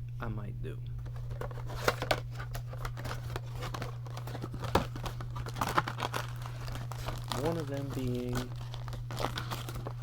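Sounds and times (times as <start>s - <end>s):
steady low hum: 0.0s - 10.0s
foil wrappers crinkling: 1.0s - 10.0s.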